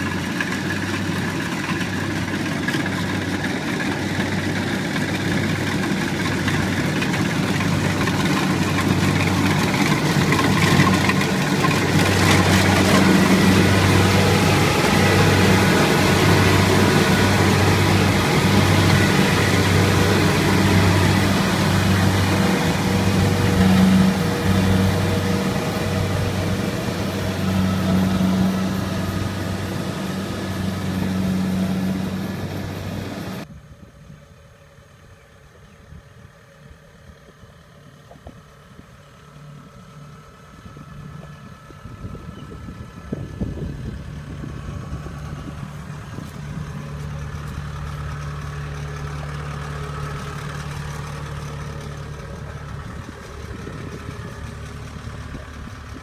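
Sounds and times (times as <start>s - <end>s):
combine harvester engine hum: 0.0s - 56.0s.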